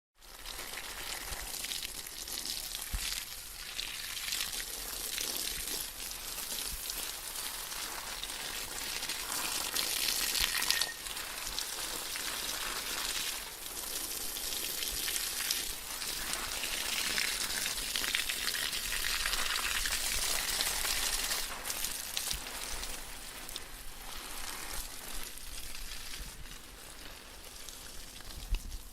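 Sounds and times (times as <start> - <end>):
garden hose spraying water: 0.2 - 28.9.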